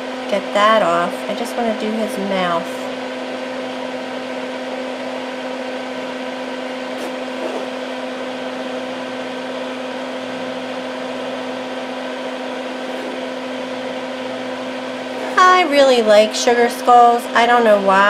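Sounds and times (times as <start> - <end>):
fan humming: 0.0 - 18.0.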